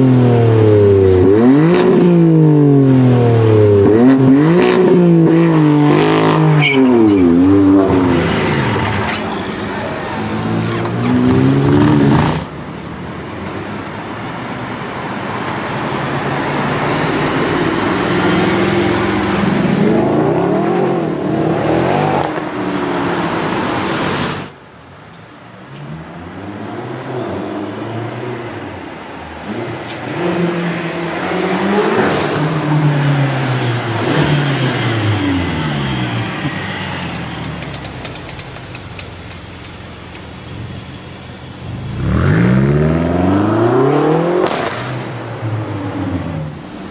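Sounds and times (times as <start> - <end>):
car engines accelerating hard: 0.0 - 12.6, 14.7 - 24.6, 25.8 - 46.9
street traffic noise: 0.0 - 46.9.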